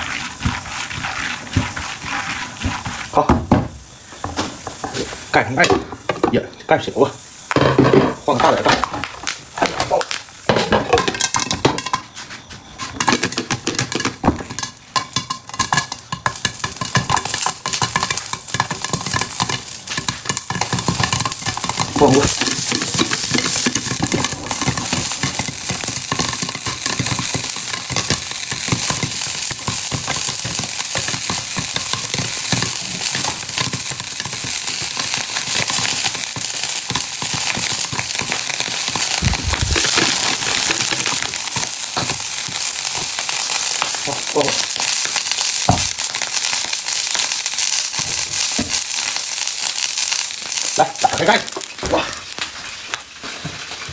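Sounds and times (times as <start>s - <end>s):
oil sizzling: 0.0s - 53.9s
popcorn popping: 0.0s - 53.9s.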